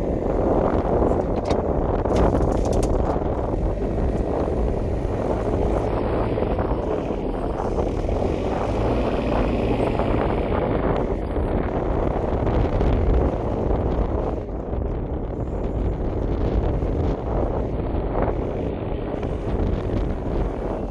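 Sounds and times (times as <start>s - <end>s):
diesel engine running: 0.0s - 20.9s
wind on microphone: 0.0s - 20.9s.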